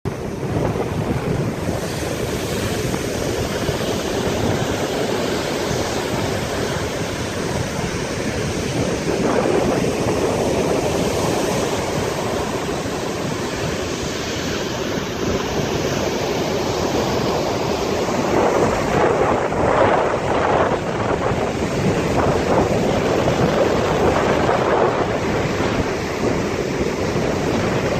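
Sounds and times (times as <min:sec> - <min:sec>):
wind buffeting microphone: 0:00.0 - 0:27.9
storm waves breaking: 0:00.1 - 0:27.9.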